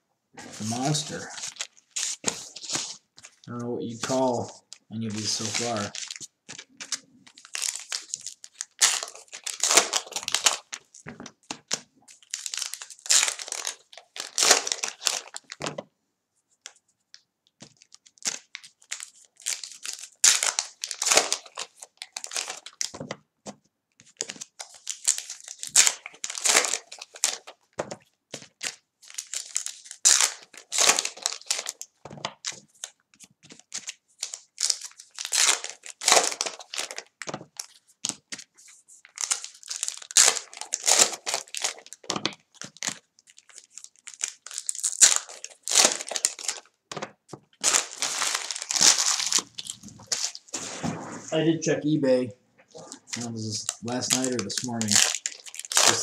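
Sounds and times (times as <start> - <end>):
wrappers tearing and crinkling: 0.4 - 15.8, 17.6 - 23.0, 24.0 - 51.3, 52.7 - 56.0.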